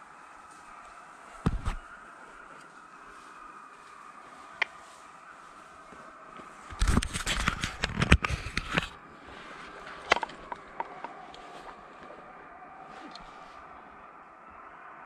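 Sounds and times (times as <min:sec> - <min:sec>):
hounds baying in the distance: 0:00.0 - 0:15.0.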